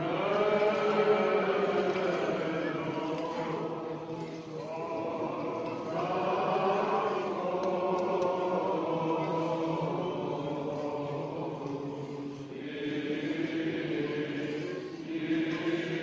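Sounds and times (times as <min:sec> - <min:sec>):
low vocal drone: 0:00.0 - 0:16.0
voices chanting church melody: 0:00.0 - 0:16.0.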